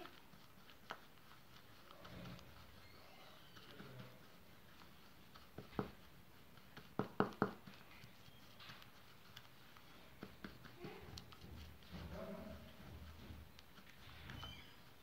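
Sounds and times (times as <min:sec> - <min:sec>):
spatula scraping plastic bowl: 0:00.0 - 0:15.0.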